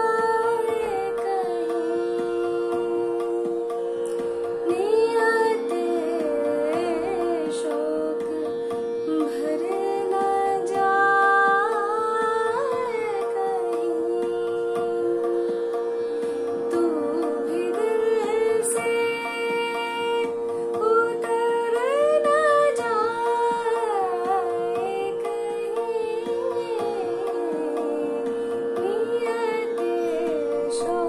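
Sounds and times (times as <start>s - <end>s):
woman singing: 0.0s - 31.0s.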